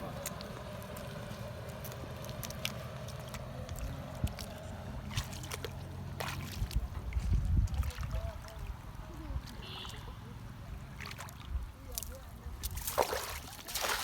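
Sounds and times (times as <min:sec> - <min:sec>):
boat engine humming: 0:00.0 - 0:12.6.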